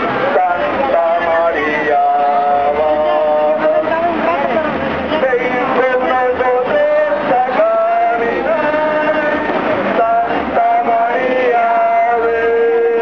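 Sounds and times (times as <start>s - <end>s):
person singing a slow hymn: 0.0s - 13.0s.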